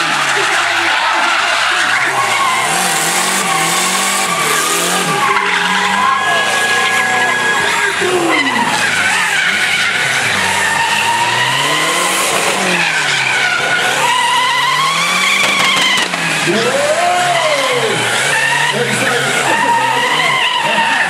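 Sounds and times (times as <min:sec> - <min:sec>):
car engine revving: 0:00.0 - 0:21.0
tyre squeal: 0:00.0 - 0:21.0.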